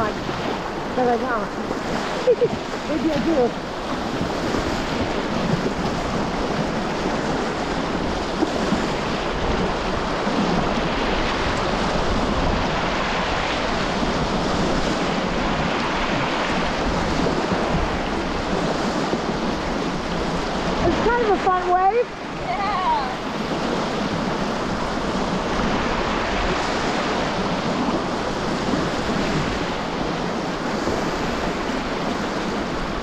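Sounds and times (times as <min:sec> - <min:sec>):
river rapid rushing: 0:00.0 - 0:33.0.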